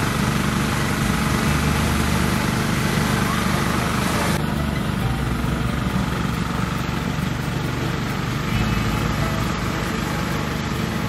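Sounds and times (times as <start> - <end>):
rice thresher engine drone: 0.0 - 11.0.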